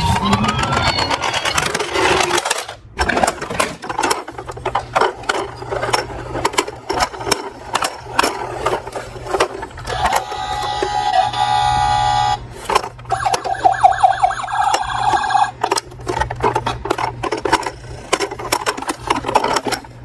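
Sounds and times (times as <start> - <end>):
toy vehicles clicking and clattering: 0.1 - 20.0.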